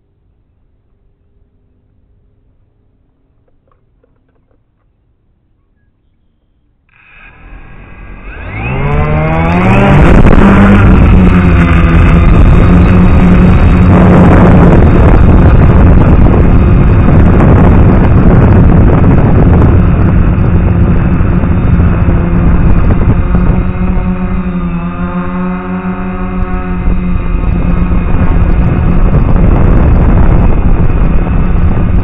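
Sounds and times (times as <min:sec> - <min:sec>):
drone propellers humming: 0:00.0 - 0:32.0.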